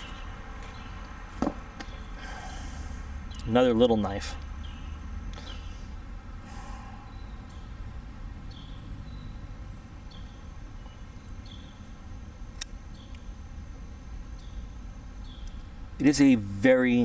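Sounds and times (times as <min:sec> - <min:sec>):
bird chirping: 0:00.0 - 0:01.1, 0:01.8 - 0:02.6, 0:03.2 - 0:05.9, 0:06.8 - 0:17.0
low steady rumble: 0:00.4 - 0:17.0.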